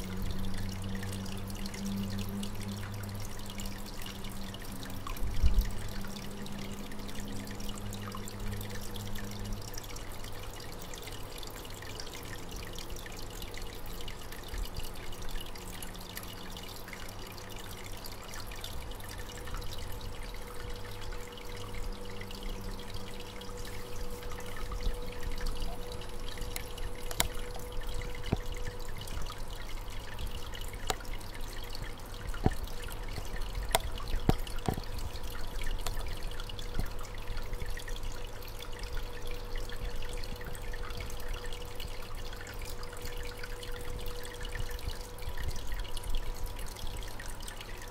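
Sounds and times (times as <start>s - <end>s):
aquarium water trickling: 0.0s - 47.9s
low steady hum: 0.0s - 47.9s.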